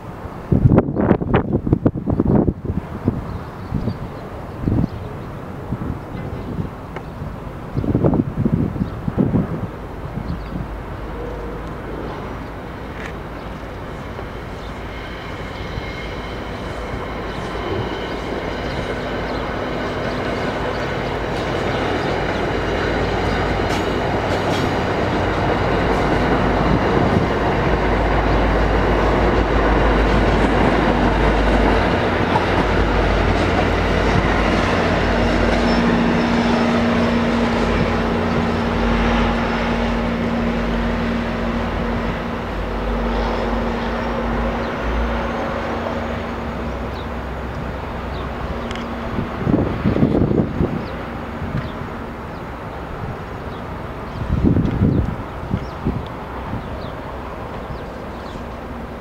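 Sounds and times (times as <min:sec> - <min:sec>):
diesel locomotive engine hum: 0:00.0 - 0:59.0
train rolling on rails: 0:00.0 - 0:59.0.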